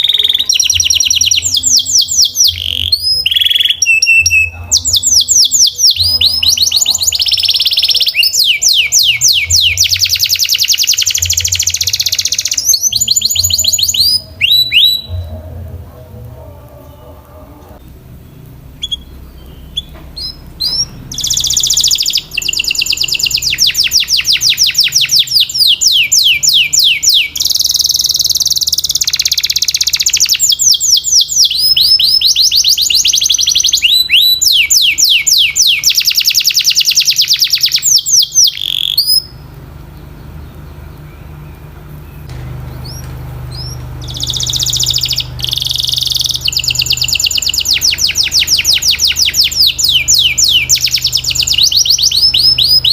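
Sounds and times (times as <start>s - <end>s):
canary singing fast trills: 0.0s - 52.9s.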